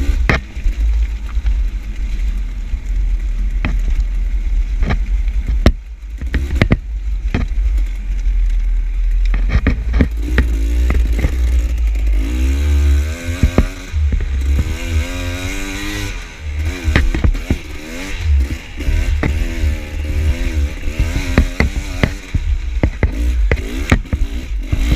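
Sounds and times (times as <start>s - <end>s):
sharp knocks and clatter: 0.0s - 2.4s, 4.8s - 24.9s
dirt bike engine revving: 0.0s - 8.0s, 9.3s - 24.9s
wind rumble on microphone: 0.0s - 24.9s.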